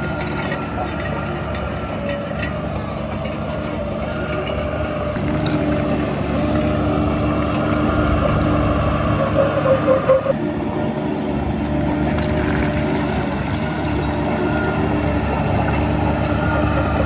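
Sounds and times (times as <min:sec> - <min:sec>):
diesel engine working: 0:00.0 - 0:17.0.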